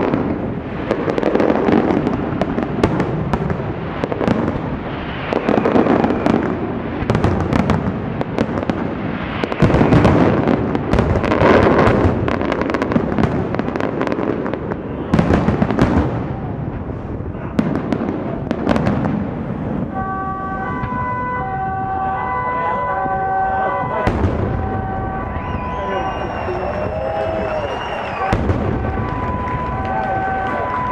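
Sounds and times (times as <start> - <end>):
fireworks booming and crackling: 0.0 - 30.9.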